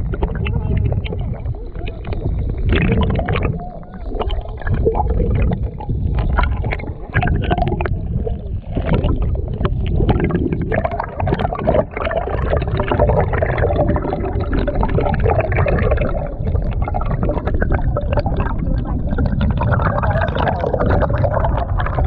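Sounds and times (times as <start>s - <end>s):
muffled underwater stream: 0.0s - 22.0s
small underwater clicks: 0.0s - 22.0s.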